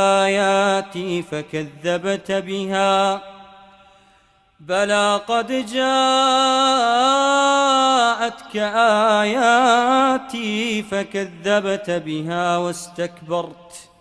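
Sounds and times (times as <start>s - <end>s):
man chanting recitation: 0.0s - 3.6s, 4.6s - 14.0s.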